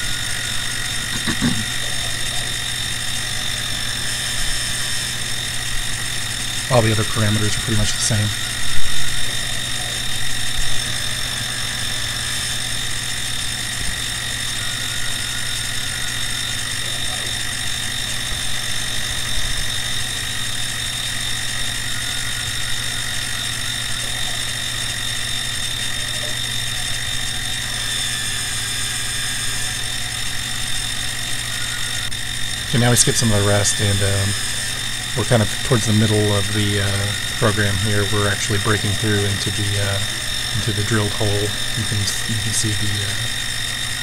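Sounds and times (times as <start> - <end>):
milling machine whine: 0.0 - 44.0.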